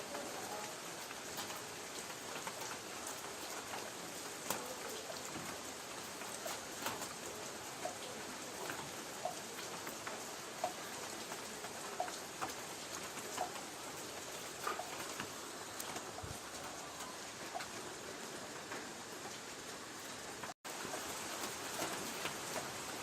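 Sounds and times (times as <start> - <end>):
light rain on a tin roof: 0.0 - 23.0.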